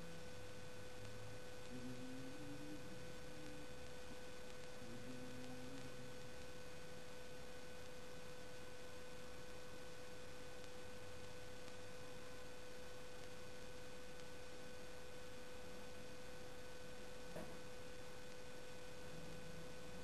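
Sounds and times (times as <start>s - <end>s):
high-pitched electrical hum: 0.0s - 20.0s
light hiss: 0.0s - 20.0s.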